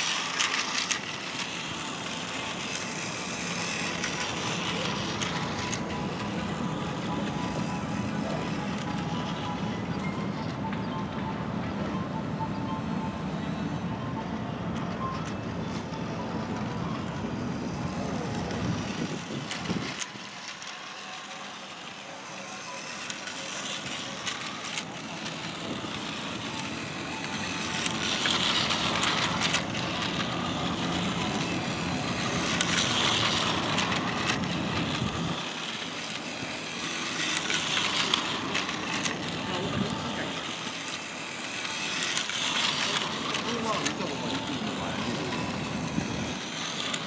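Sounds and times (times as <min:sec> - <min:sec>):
outdoor background noise: 0:00.0 - 0:47.0
toy train whirring on track: 0:00.0 - 0:47.0.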